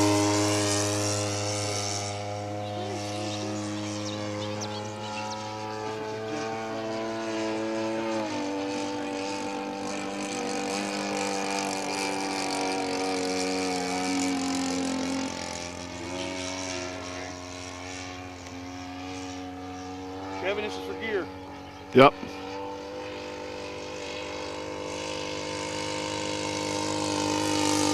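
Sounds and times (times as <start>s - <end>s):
model plane engine drone: 0.0s - 27.9s.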